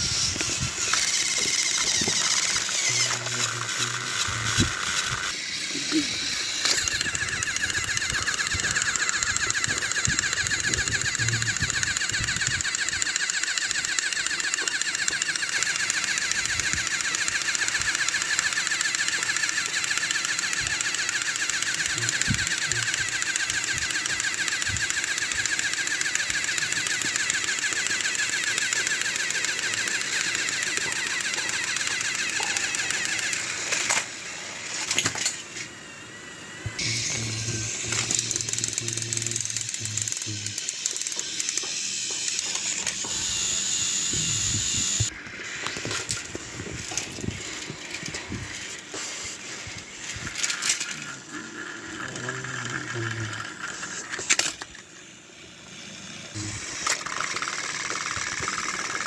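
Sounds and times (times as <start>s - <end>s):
toy train motors whirring and clicking: 0.0s - 59.0s.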